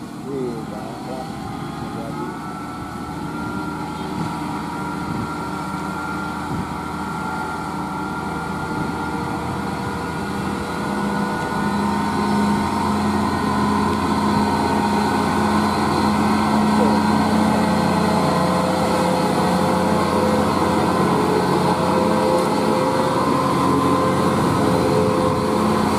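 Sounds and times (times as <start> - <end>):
diesel truck engine labouring: 0.0 - 25.9.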